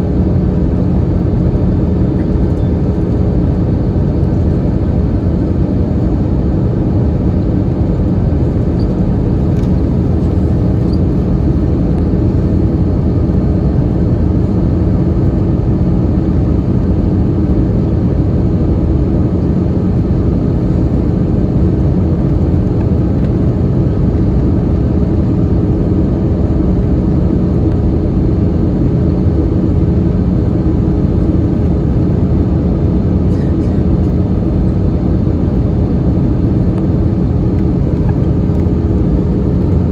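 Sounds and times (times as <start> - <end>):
airliner cabin roar: 0.0 - 39.9
faint steady hum: 0.0 - 39.9.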